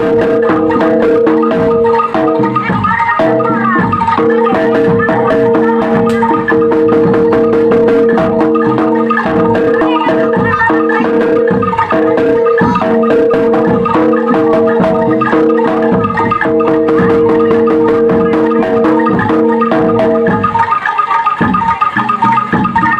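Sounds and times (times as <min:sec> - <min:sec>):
fast percussion strokes: 0:00.0 - 0:22.9
metal mallet instruments struck: 0:00.0 - 0:22.9
sustained held tones: 0:00.0 - 0:22.9.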